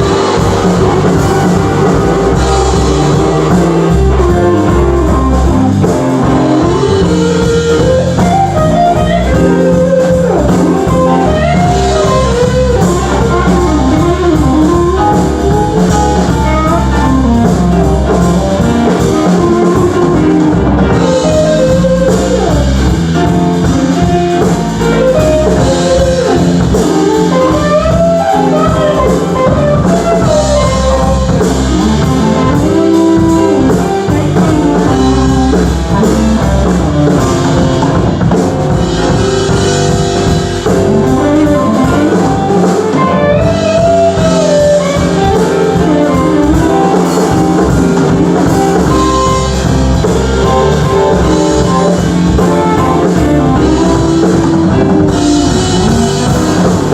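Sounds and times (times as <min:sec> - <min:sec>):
blues-rock guitar lead: 0:00.0 - 0:56.9
drum kit: 0:00.0 - 0:56.9.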